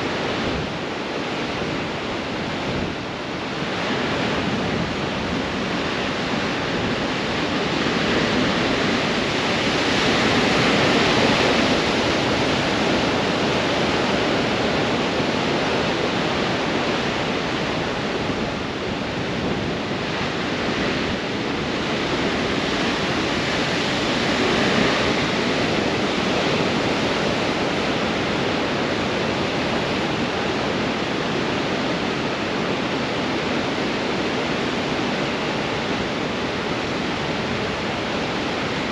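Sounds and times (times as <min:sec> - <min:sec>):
strong wind: 0:00.0 - 0:38.9.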